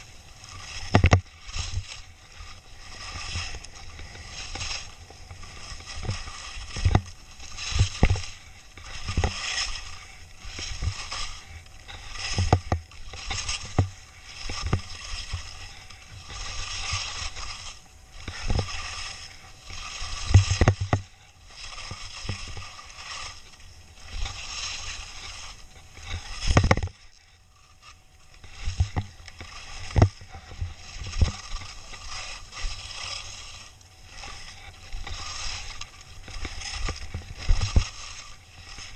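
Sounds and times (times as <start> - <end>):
skis scraping over snow: 0.0 - 38.9.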